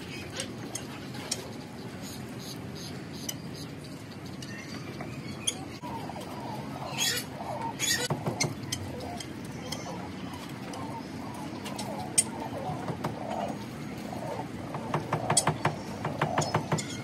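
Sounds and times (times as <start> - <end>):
birds chirping and calling: 0.0 - 17.0
outdoor background noise: 0.0 - 17.0.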